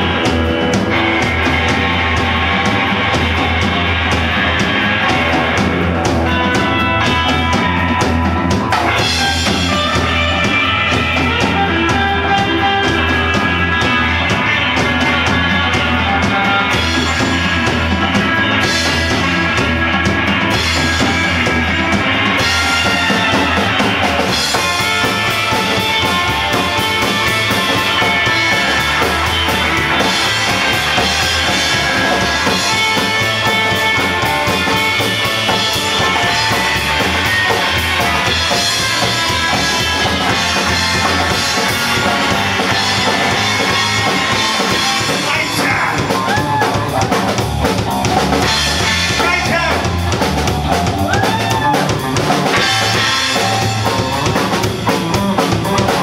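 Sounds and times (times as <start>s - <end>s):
drum kit: 0.0s - 56.0s
electric bass: 0.0s - 56.0s
electric guitar with bending notes: 0.0s - 56.0s.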